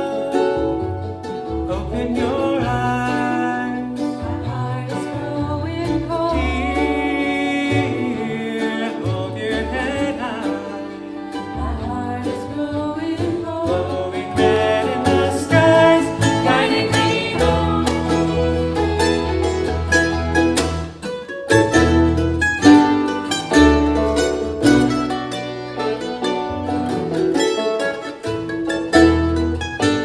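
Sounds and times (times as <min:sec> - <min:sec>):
acoustic band with plucked strings: 0:00.0 - 0:30.0.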